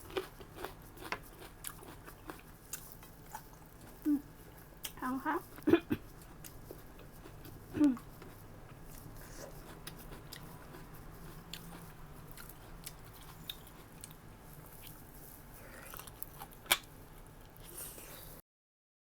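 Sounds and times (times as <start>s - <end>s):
person chewing food: 0.0s - 18.4s.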